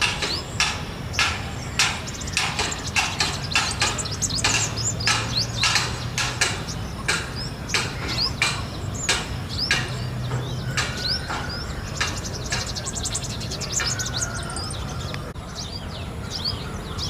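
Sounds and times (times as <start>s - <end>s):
bird calling sharp clipped notes: 0.0s - 15.4s.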